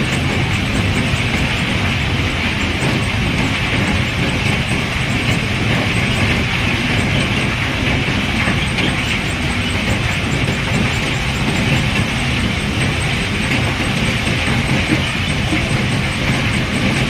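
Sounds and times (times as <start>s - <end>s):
machinery unloading pebbles: 0.0s - 17.0s.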